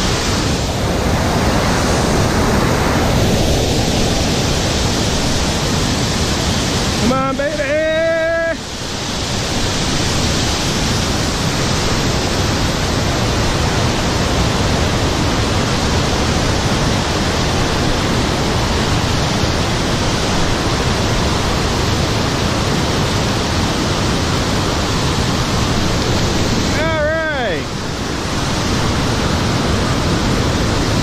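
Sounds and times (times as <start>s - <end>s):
river water rushing over rapids: 0.0s - 31.0s.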